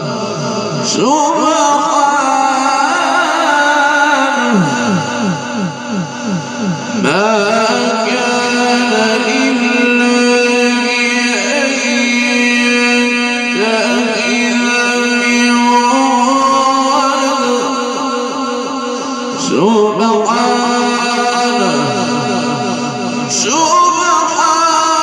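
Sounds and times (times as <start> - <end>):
man chanting recitation: 0.0 - 25.0.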